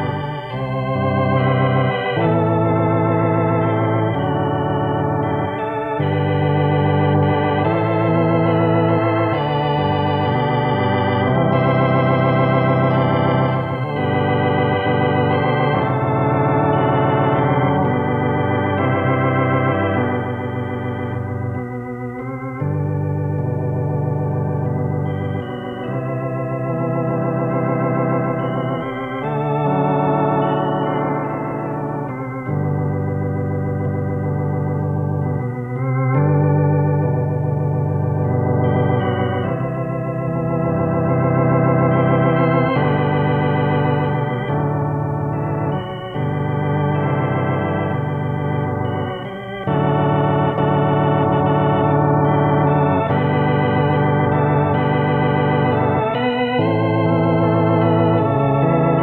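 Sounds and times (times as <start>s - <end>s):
organ playing hymn chords: 0.0s - 59.0s.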